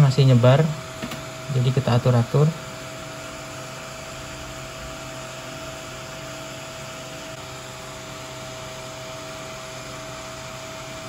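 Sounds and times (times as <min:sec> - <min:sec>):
small cooling fan whirring: 0:00.0 - 0:11.0
steady hum: 0:00.0 - 0:11.0.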